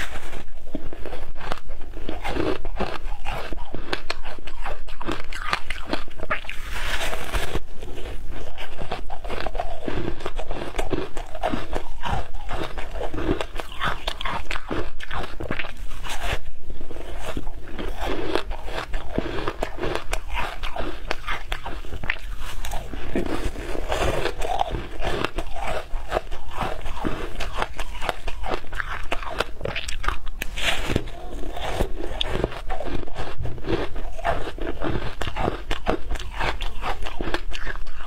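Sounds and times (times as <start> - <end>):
crunching shaved ice: 0.0 - 38.0.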